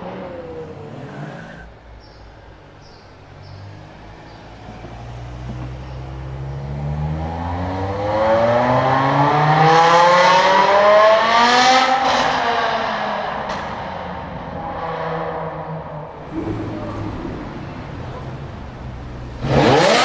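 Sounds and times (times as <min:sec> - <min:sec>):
car engine accelerating hard: 0:03.4 - 0:20.0.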